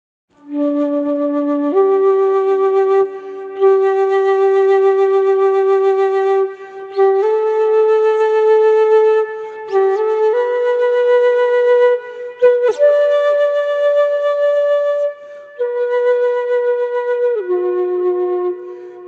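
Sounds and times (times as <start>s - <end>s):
bamboo flute melody: 0.4s - 19.0s.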